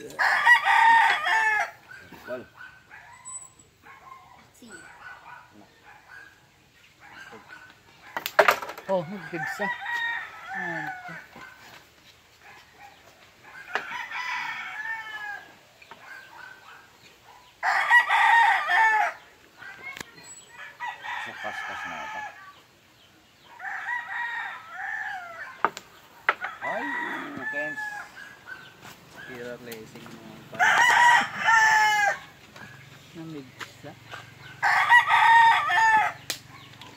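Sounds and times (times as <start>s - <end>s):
roosters crowing: 0.0s - 36.9s.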